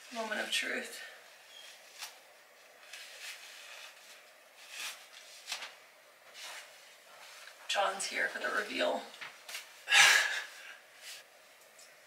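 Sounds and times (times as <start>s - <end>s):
soft rustles of fabric and hair: 0.0s - 12.0s.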